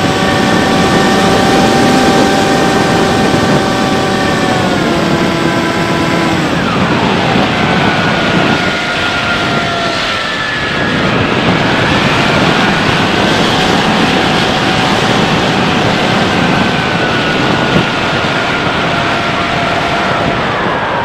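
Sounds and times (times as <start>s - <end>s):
faint steady whine: 0.0s - 21.0s
rushing airflow: 0.0s - 21.0s.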